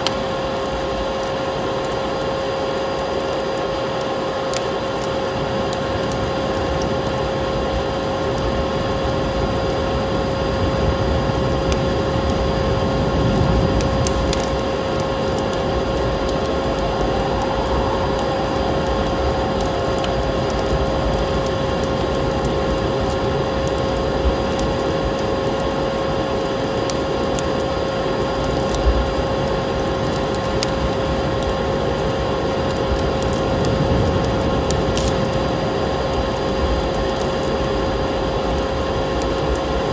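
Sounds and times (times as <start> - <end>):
vacuum cleaner drone: 0.0 - 36.7
wood fire crackling: 0.0 - 39.9.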